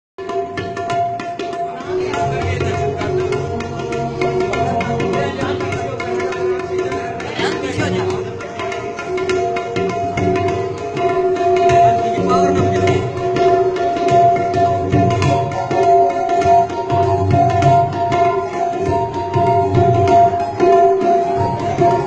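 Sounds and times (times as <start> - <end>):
tabla drums played by hand: 0.2 - 22.0.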